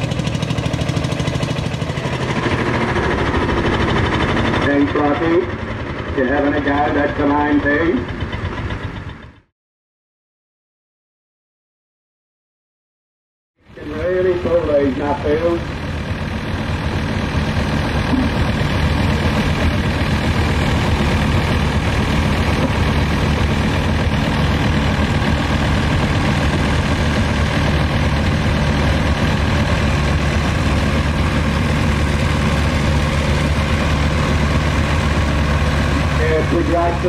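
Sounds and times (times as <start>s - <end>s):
tractor diesel engine under load: 0.0s - 9.5s, 13.6s - 37.0s.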